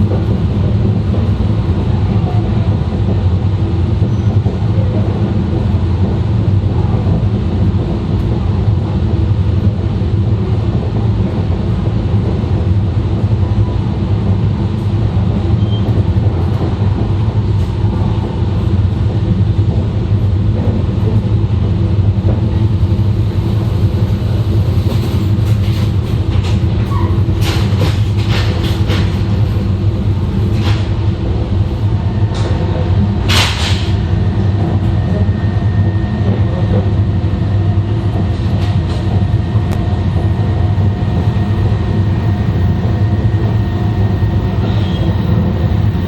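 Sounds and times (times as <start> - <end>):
train wheels rumbling: 0.0 - 46.0.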